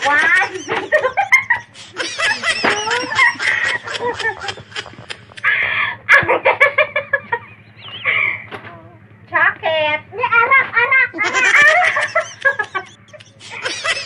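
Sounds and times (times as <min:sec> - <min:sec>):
girl laughing: 0:00.0 - 0:08.5, 0:10.7 - 0:14.0
woman laughing: 0:00.0 - 0:08.5, 0:10.7 - 0:14.0.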